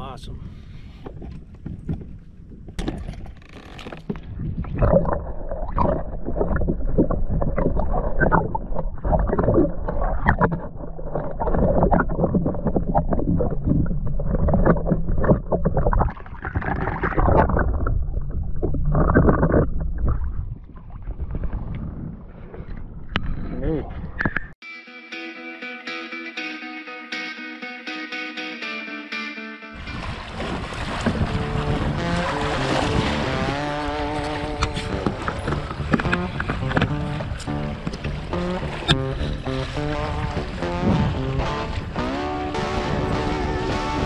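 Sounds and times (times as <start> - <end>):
muffled underwater water churning: 0.8 - 24.6, 29.8 - 44.0.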